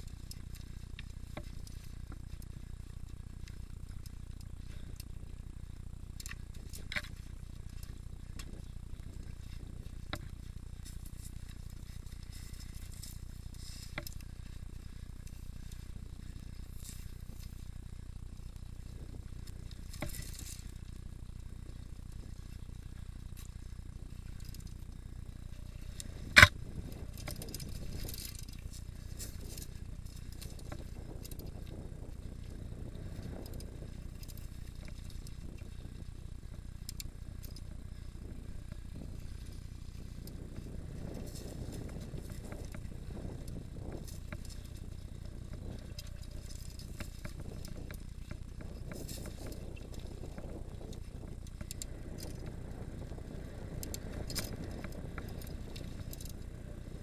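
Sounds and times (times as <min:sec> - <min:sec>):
bike rattling over rock: 0:00.0 - 0:57.0
low rumble: 0:00.0 - 0:57.0.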